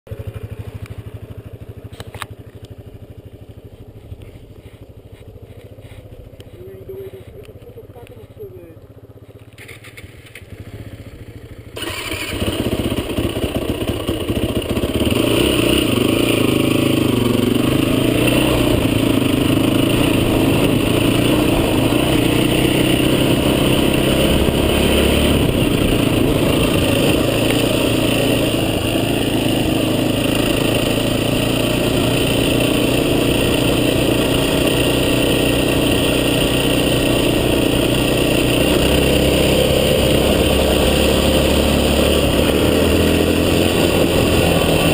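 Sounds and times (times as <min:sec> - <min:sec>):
off-road vehicle engine running: 0:00.1 - 0:44.9.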